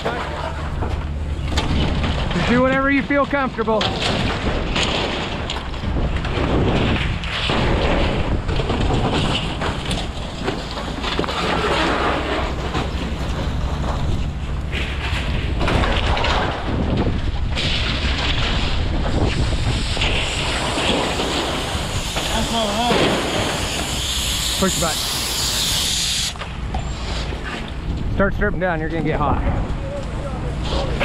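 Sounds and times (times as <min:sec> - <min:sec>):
wind buffeting microphone: 0:01.1 - 0:11.6, 0:12.4 - 0:31.0.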